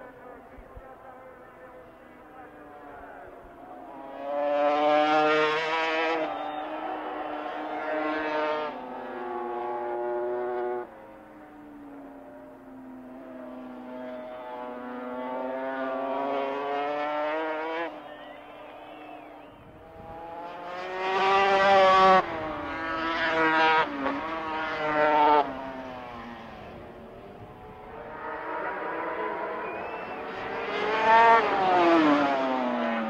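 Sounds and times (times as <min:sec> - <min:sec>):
racing motorcycle engines revving: 0:00.0 - 0:33.0
motorcycle passing with rising wail: 0:03.7 - 0:33.0.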